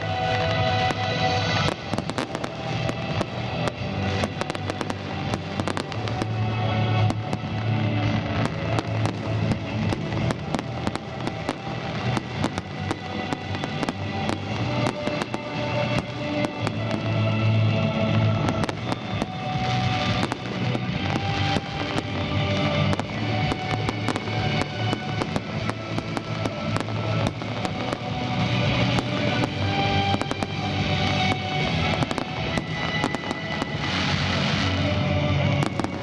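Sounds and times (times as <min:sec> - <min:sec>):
fireworks bangs and crackles: 0:00.0 - 0:36.0
loud music: 0:00.0 - 0:36.0.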